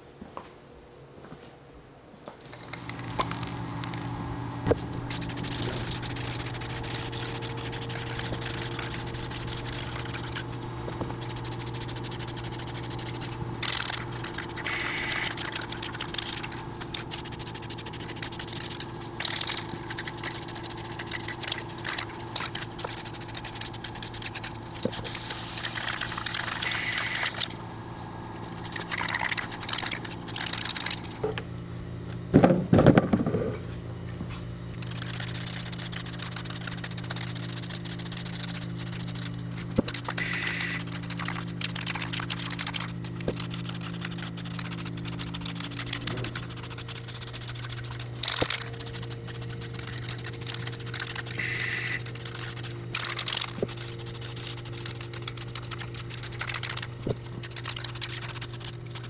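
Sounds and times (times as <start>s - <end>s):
motor hum: 2.4s - 59.0s.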